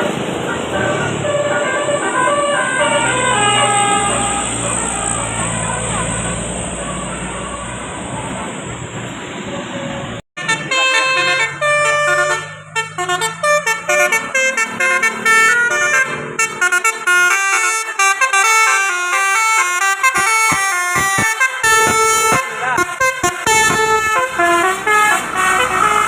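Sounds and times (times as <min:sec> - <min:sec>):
traffic noise: 0:00.0 - 0:26.0
musical bus horn tune: 0:00.7 - 0:08.1, 0:09.9 - 0:26.0.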